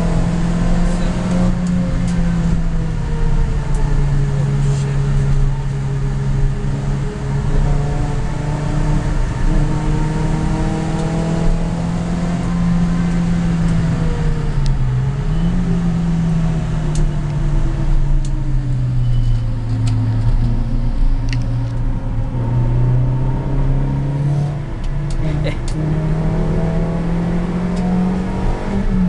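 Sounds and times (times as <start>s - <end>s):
car engine at high revs: 0.0s - 29.0s
road and tyre noise: 0.0s - 29.0s.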